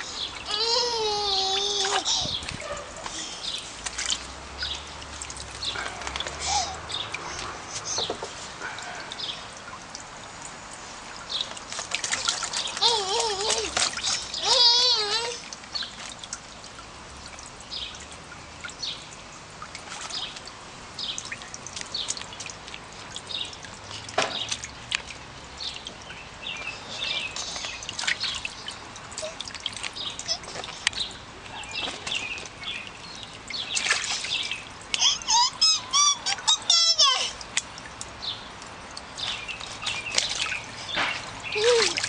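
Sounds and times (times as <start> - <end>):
baby splashing water: 0.0 - 42.0.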